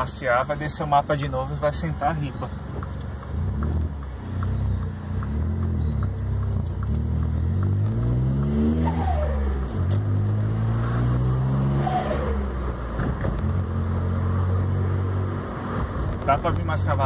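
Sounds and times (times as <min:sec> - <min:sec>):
car engine accelerating: 0:01.8 - 0:17.0.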